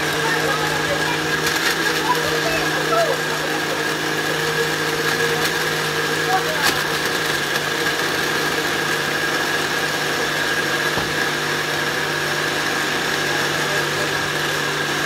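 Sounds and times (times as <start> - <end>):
blender motor running: 0.0 - 15.0.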